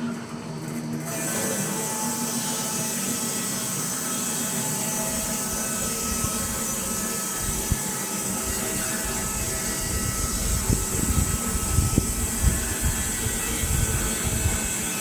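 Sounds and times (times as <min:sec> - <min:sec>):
bandsaw mill whining: 0:00.0 - 0:15.0.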